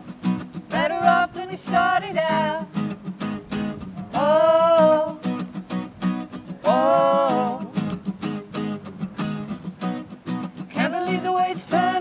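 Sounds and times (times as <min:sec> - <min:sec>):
acoustic guitars strumming: 0:00.0 - 0:12.0.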